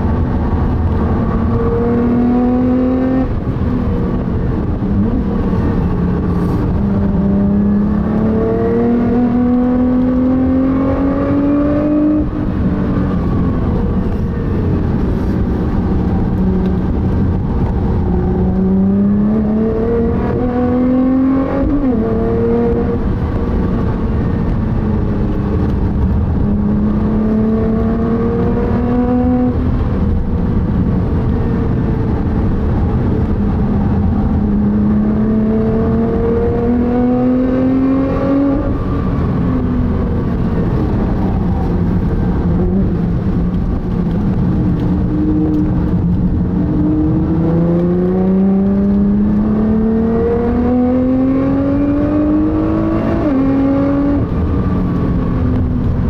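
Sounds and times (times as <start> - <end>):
car engine accelerating hard: 0.0 - 56.0
tyre and road rumble: 0.0 - 56.0.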